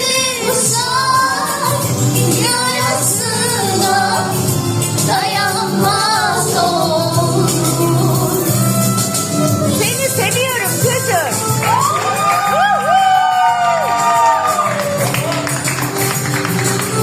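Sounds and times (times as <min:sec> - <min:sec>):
backing music: 0:00.0 - 0:17.0.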